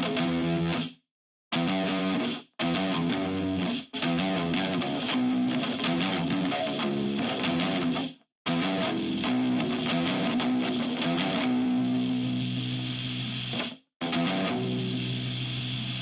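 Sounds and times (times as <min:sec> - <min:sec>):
funk rock music: 0:00.0 - 0:12.6, 0:13.5 - 0:15.6
strummed electric guitar: 0:00.0 - 0:16.0.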